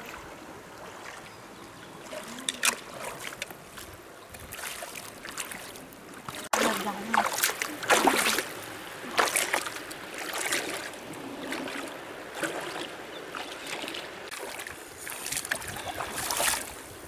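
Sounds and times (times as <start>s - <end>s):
water splashing: 0.0s - 17.0s.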